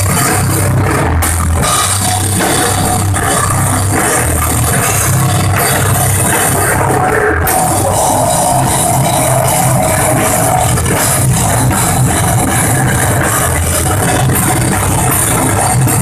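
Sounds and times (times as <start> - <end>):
distorted electric guitars: 0.0 - 16.0
pounding drum kit: 0.0 - 16.0.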